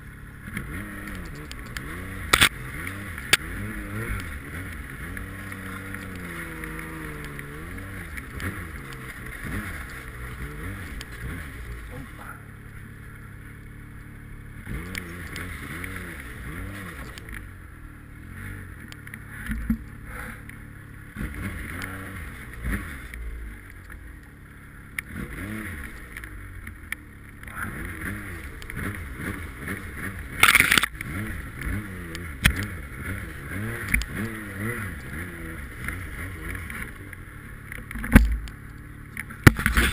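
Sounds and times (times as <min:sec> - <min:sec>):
snowmobile engine revving: 0:00.0 - 0:23.6, 0:24.4 - 0:26.2, 0:26.8 - 0:38.2, 0:38.9 - 0:39.9.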